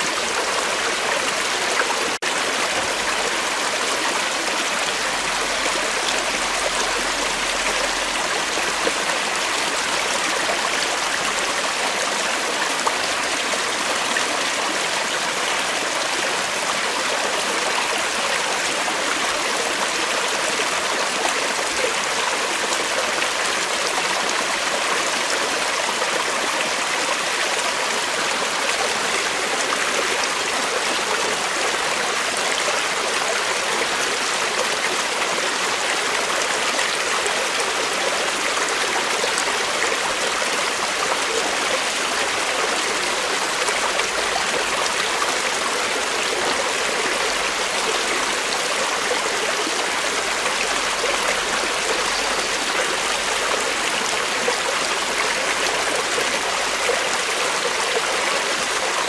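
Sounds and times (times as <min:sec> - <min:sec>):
creek water flowing over rocks: 0:00.0 - 0:59.0.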